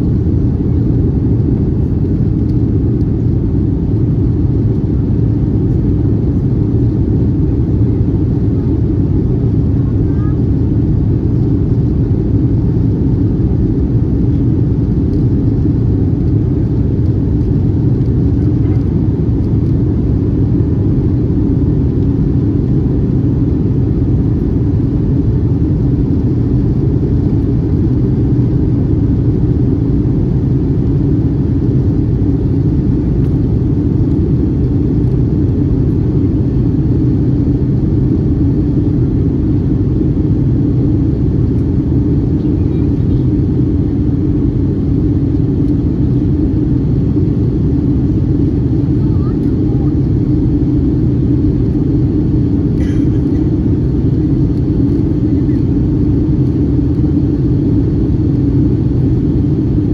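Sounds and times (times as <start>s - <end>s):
jet engine drone in cabin: 0.0s - 59.9s.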